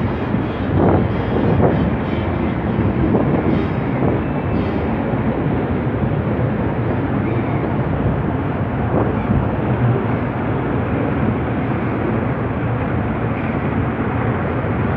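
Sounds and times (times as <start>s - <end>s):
ship engines rumbling: 0.0s - 14.9s.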